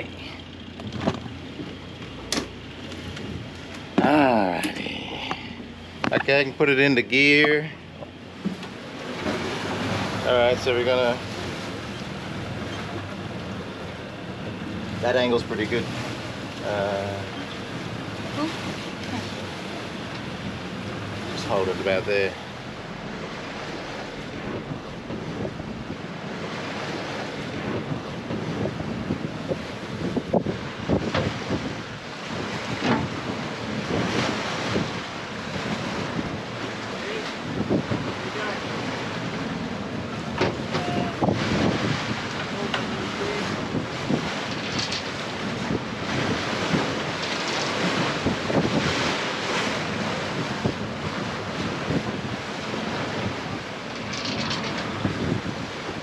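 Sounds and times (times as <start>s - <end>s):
sea water washing: 0.0s - 56.0s
waves rushing along hull: 0.0s - 56.0s
wind buffeting microphone: 0.0s - 56.0s.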